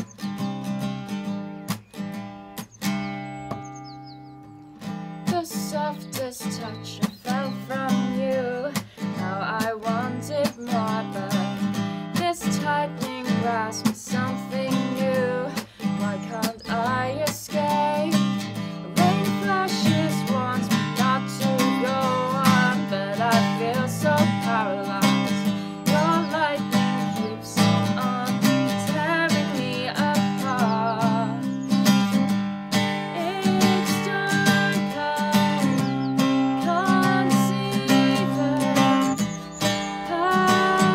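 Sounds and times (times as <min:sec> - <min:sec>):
acoustic guitar strumming: 0:00.0 - 0:40.9
woman singing: 0:05.2 - 0:32.1, 0:33.0 - 0:40.9.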